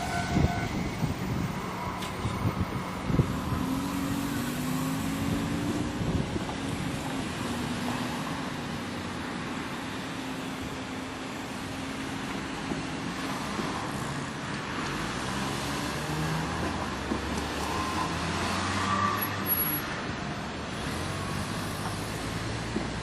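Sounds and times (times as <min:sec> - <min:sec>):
cars passing with tyre noise: 0:00.0 - 0:23.0.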